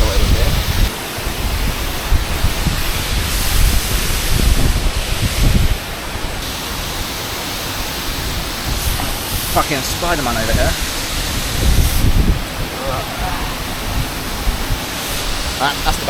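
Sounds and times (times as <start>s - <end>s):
waterfall rushing: 0.0s - 16.0s
wind buffeting microphone: 0.0s - 16.0s.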